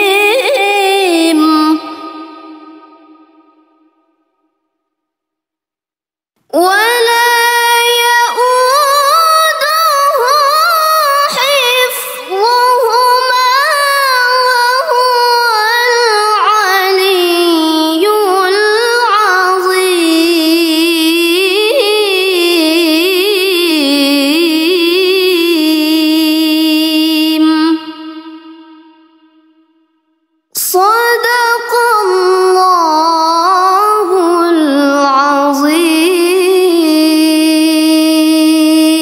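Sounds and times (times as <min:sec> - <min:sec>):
woman reciting melodically: 0:00.0 - 0:03.4, 0:06.5 - 0:29.5, 0:30.5 - 0:39.0.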